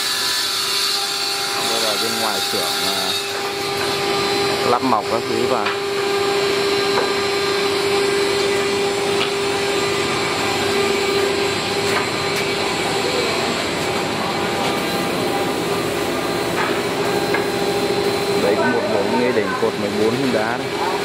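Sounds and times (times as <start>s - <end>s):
woodworking machine motor hum: 0.0s - 21.0s.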